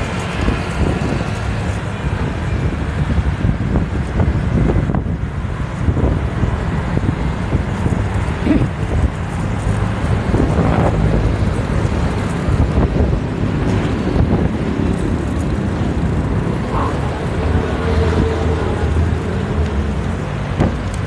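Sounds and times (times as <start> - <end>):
road and traffic noise: 0.0 - 21.0
wind rush on microphone: 0.0 - 21.0.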